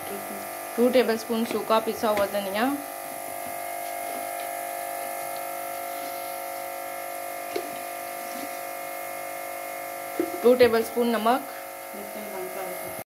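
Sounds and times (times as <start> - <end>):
electrical buzzing hum: 0.0 - 13.0.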